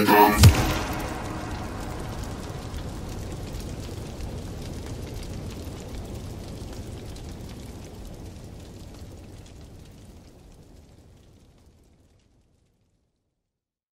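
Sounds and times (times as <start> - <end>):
dense crackling hiss: 0.0 - 13.5.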